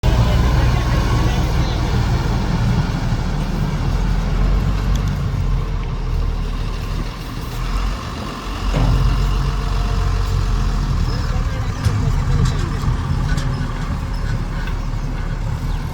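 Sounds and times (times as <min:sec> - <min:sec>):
diesel engine rumbling: 0:00.0 - 0:15.9.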